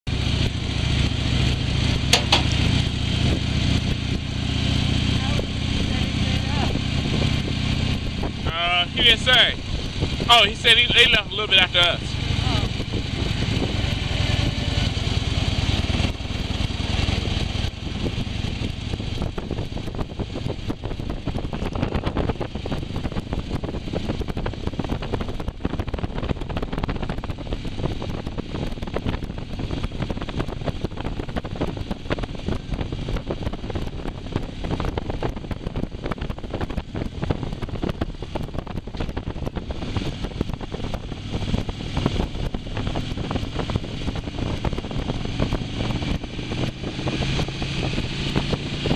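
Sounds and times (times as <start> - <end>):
motorcycle engine running: 0.0 - 48.9
wind rush on microphone: 0.1 - 48.9.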